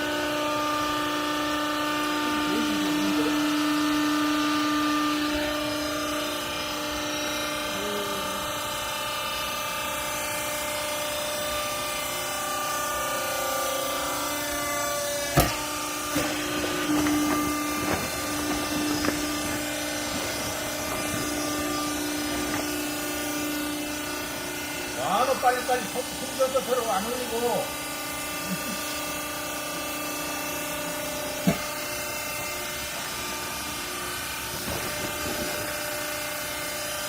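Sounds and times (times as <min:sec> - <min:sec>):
baler mechanical whine: 0:00.0 - 0:37.0.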